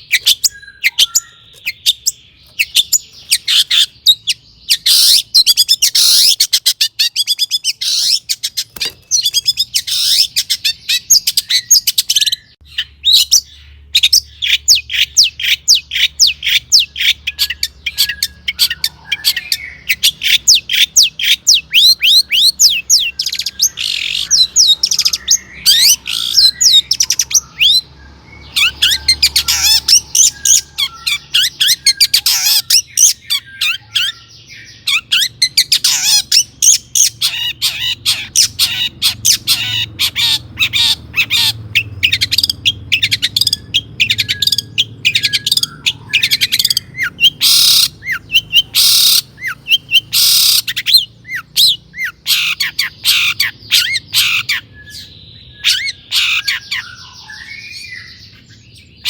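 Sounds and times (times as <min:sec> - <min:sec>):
bird singing fast varied song: 0:00.0 - 0:59.0.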